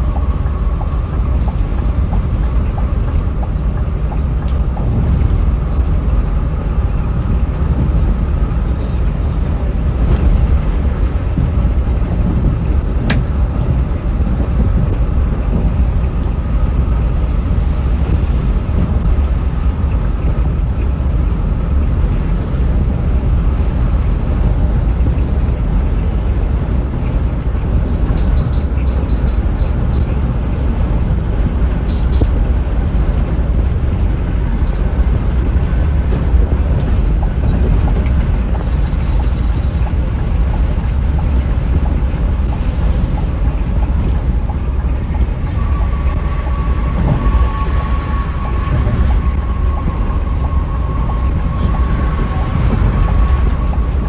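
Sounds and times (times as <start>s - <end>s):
coach engine and road rumble: 0.0s - 54.0s.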